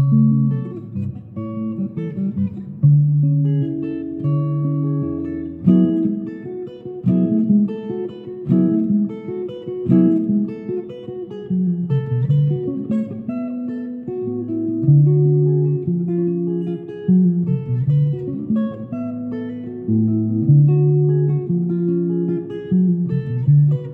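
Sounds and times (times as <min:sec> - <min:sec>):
electric guitar playing: 0:00.0 - 0:23.9.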